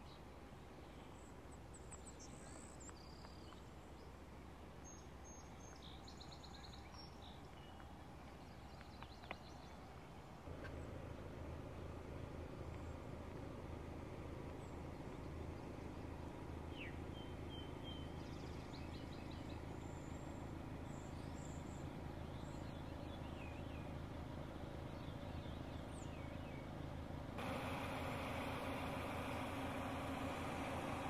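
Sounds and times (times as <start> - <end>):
small birds chirping: 0.0 - 31.0
steady low hum: 0.0 - 31.0.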